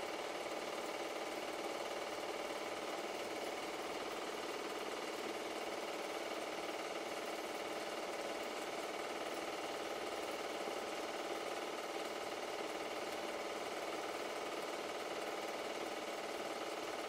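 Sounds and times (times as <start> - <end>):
film projector clattering: 0.0 - 17.0.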